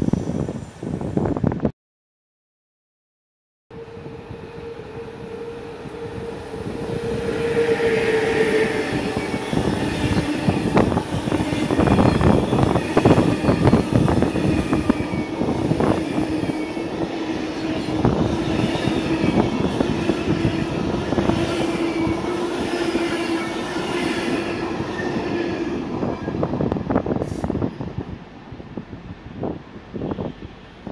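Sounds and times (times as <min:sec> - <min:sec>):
train coaches rolling past: 0:03.8 - 0:30.9.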